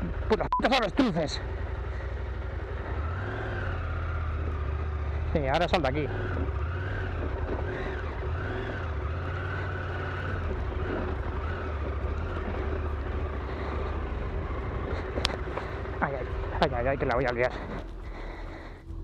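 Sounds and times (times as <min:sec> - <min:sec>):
motorcycle engine running at low speed: 0:00.0 - 0:19.0.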